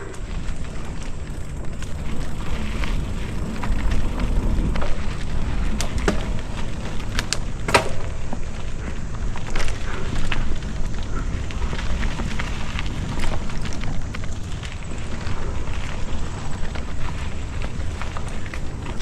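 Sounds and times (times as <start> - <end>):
bike clicks and rattles: 0.0 - 19.0
tyres rumbling on dirt trail: 0.0 - 19.0.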